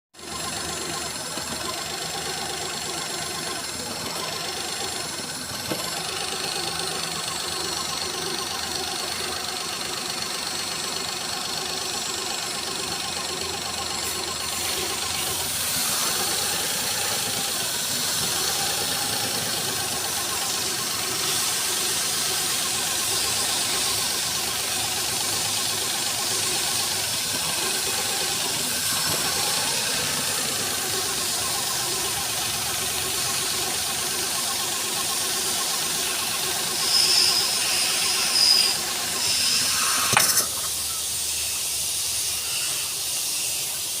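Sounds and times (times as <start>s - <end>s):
car engine idling: 0.2s - 44.0s.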